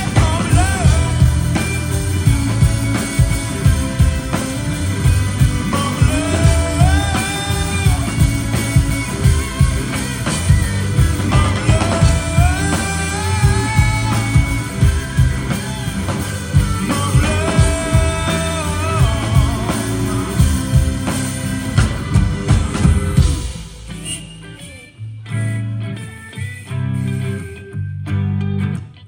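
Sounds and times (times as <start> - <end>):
person singing lead vocal: 0.0 - 25.4
rock band playing live: 0.0 - 29.0.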